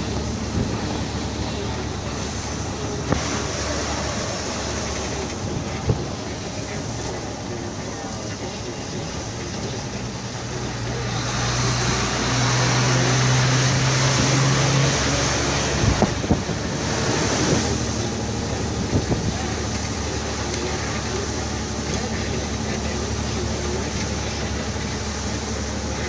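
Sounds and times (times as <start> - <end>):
low engine hum: 0.0 - 26.0
wind and road noise in vehicle: 0.0 - 26.0.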